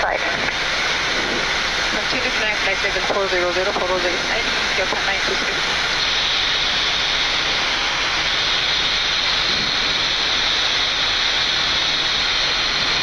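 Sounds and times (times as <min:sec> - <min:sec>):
cockpit rushing hiss: 0:00.0 - 0:13.0.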